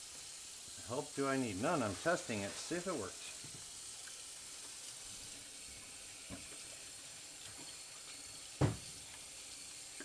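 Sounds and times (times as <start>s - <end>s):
faucet running into sink: 0.0s - 10.0s.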